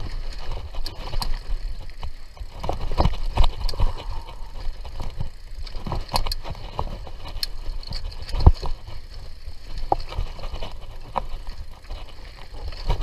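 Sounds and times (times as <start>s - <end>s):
bike rattles and knocks: 0.0s - 13.0s
bike rumbling on dirt trail: 0.0s - 13.0s.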